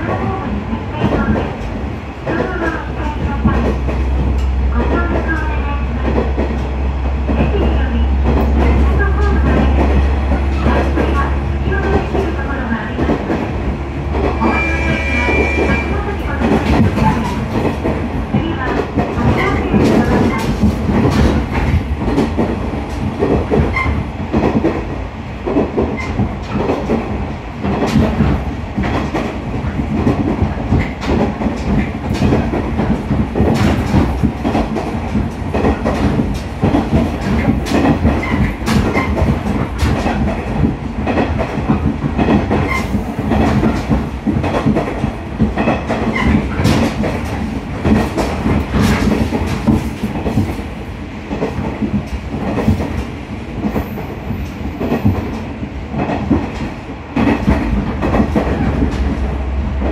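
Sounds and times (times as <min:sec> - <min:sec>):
train running low drone: 0:00.0 - 0:59.9.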